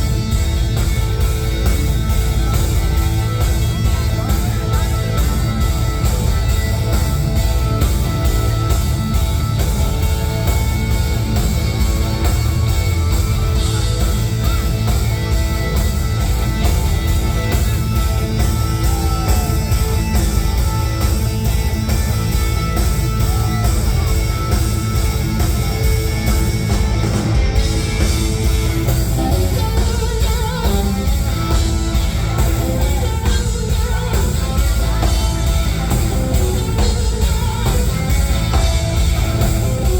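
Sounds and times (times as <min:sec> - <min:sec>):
rock music with guitar: 0:00.0 - 0:39.9.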